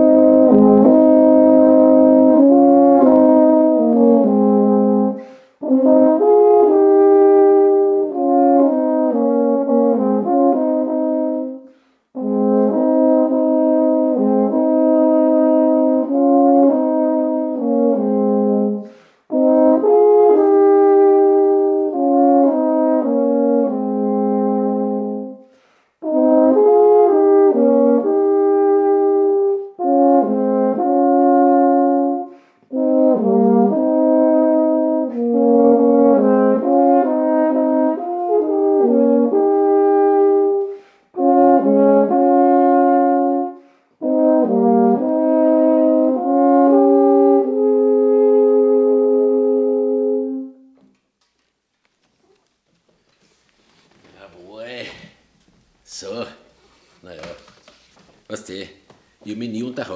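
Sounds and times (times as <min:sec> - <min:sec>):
tenor horns playing a duet: 0:00.0 - 0:50.8.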